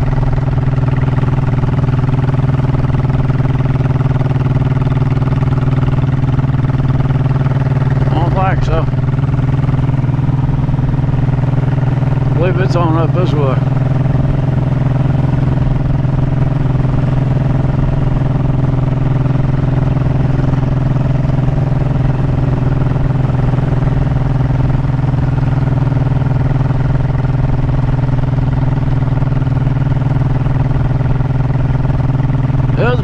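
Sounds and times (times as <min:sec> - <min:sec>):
motorcycle engine running steadily: 0:00.0 - 0:33.0.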